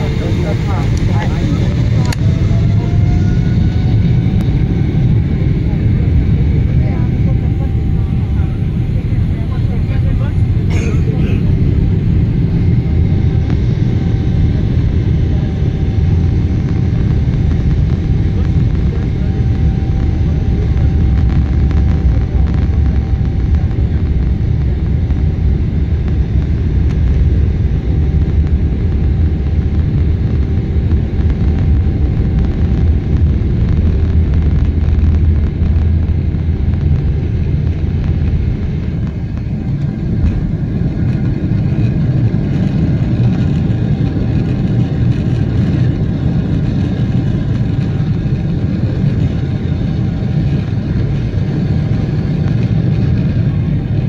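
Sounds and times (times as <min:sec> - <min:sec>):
jet engines at takeoff thrust: 0:00.0 - 0:54.0
wheels rumbling on runway: 0:00.0 - 0:54.0.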